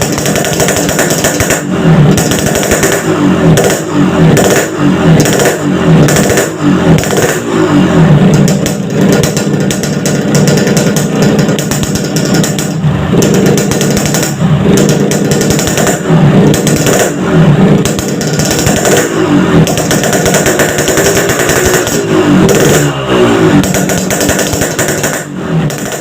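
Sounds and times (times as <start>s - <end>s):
two-stroke motorcycle engine revving: 0.0s - 26.0s.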